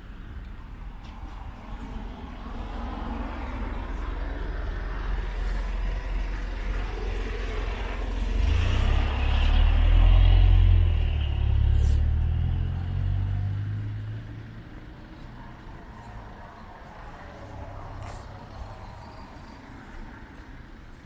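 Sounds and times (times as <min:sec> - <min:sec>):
large vehicle engine rumble: 0:00.0 - 0:21.0
road traffic passing: 0:00.0 - 0:21.0.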